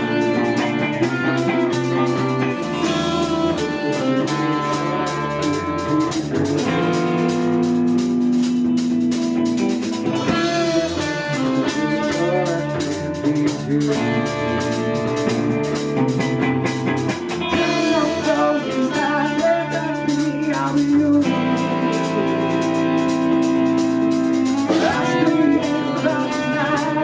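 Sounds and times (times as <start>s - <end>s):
drum kit: 0.0s - 27.0s
guitars: 0.0s - 27.0s.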